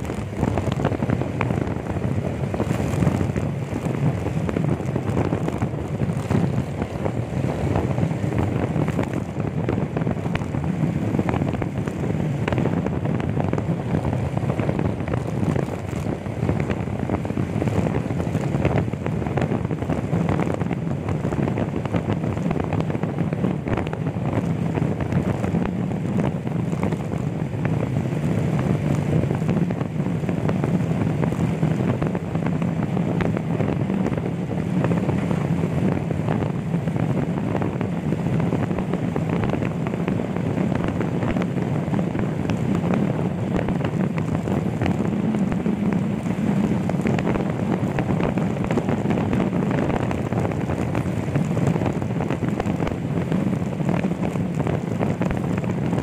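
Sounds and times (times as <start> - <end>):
motorcycle engine and tyres drone: 0.0 - 56.0
wind buffeting microphone: 0.0 - 56.0.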